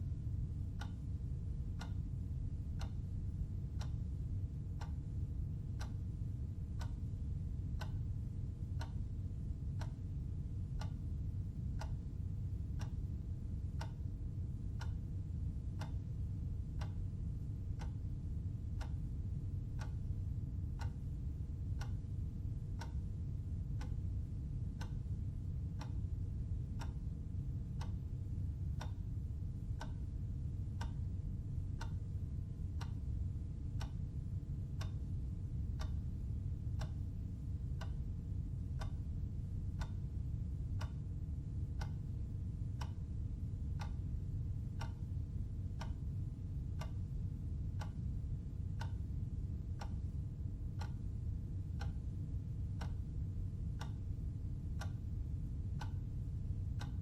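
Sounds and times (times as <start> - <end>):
steady low hum: 0.0 - 57.0
clock ticking: 1.6 - 2.1, 2.8 - 6.1, 6.8 - 8.1, 8.7 - 10.0, 10.7 - 18.1, 18.8 - 19.1, 19.7 - 30.1, 30.7 - 38.1, 38.7 - 39.0, 39.7 - 41.1, 41.7 - 53.0, 53.7 - 57.0.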